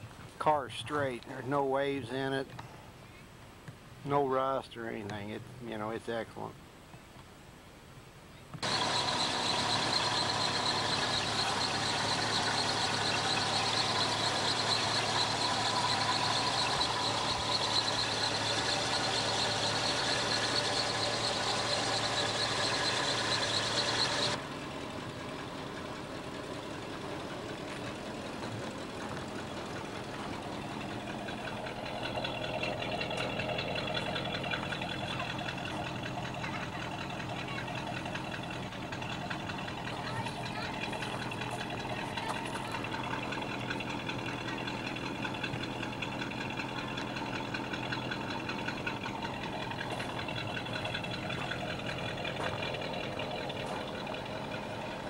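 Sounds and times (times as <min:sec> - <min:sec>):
car engine idling: 0:08.6 - 0:55.0.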